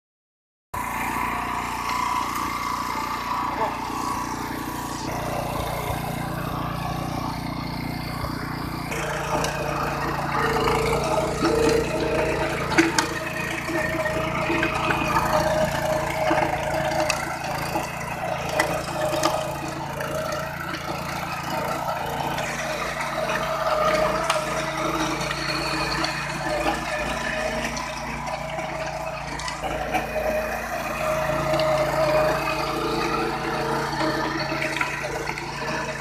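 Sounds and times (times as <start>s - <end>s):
tiller engine running: 0.8s - 36.0s.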